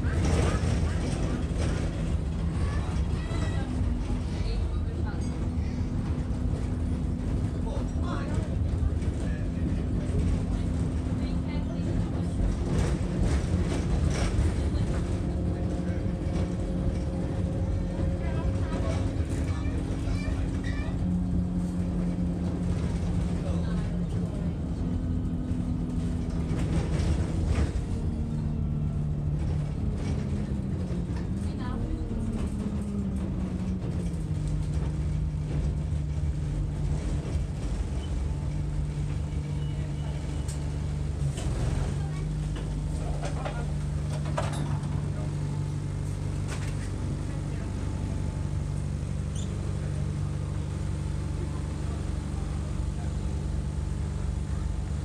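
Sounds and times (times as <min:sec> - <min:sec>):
bus engine low drone: 0:00.0 - 0:55.0.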